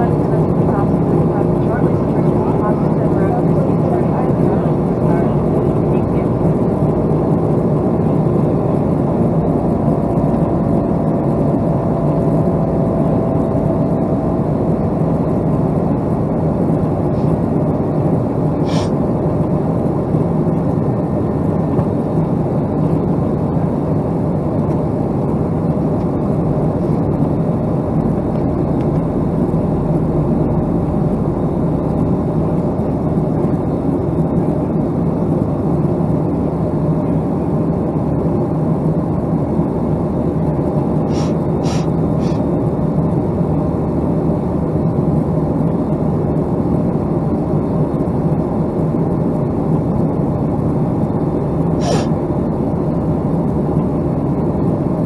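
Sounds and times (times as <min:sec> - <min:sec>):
jet engine drone: 0:00.0 - 0:55.0.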